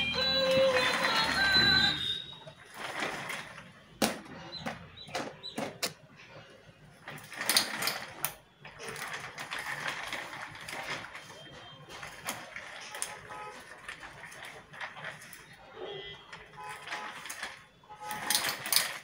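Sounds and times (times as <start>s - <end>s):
plastic casters rattling on tiles: 0.0s - 19.0s.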